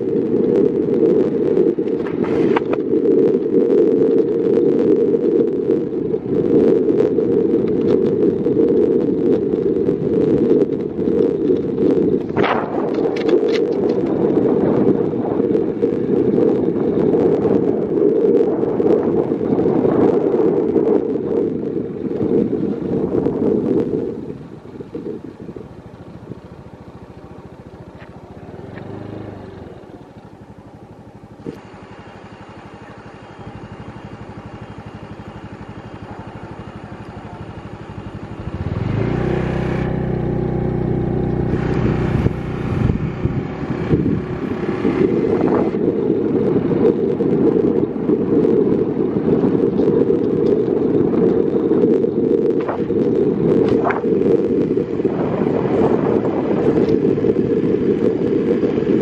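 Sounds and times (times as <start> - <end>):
vehicle engine: 0.0 - 59.0
wind buffeting microphone: 0.0 - 59.0.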